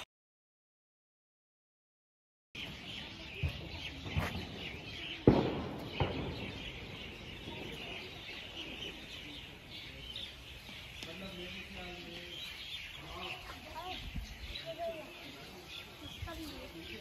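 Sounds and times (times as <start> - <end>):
birds chirping: 2.6 - 17.0.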